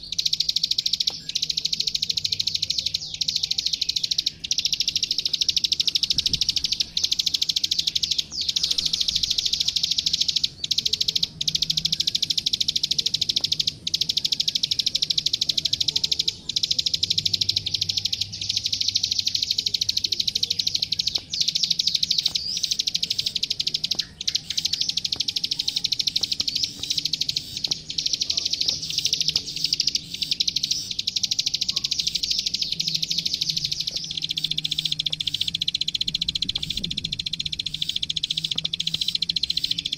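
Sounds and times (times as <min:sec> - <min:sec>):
bird singing rapid ticking notes: 0:00.0 - 0:39.9.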